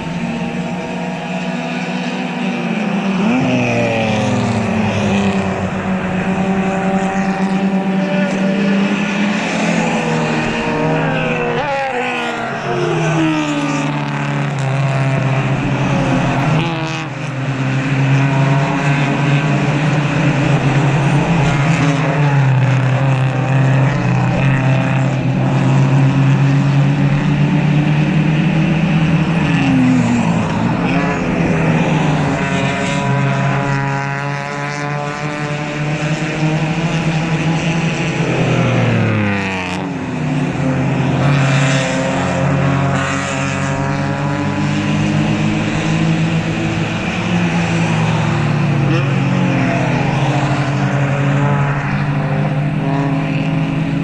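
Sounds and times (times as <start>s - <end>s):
race car engines at high revs: 0.0s - 54.0s.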